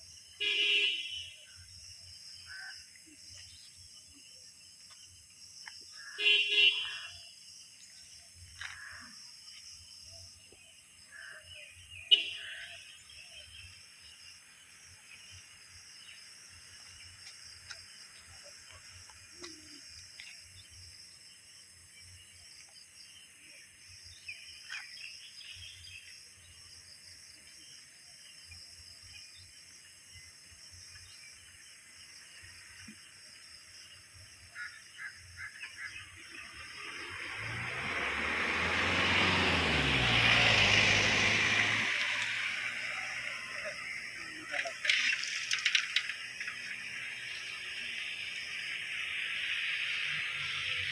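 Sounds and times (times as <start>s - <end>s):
insect chorus: 0.0s - 50.9s.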